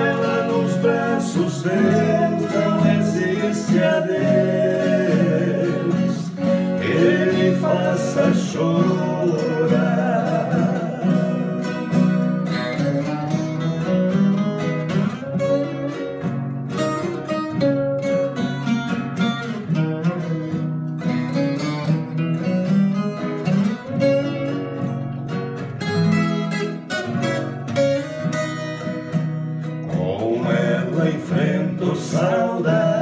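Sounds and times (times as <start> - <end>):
nylon-string guitar strumming: 0.0 - 33.0.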